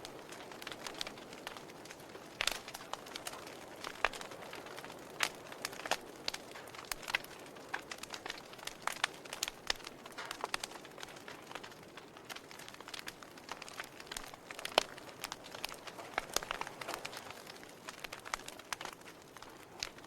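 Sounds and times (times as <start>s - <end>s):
soft fire hiss: 0.0s - 20.0s
wood fire crackling and popping: 0.0s - 20.0s.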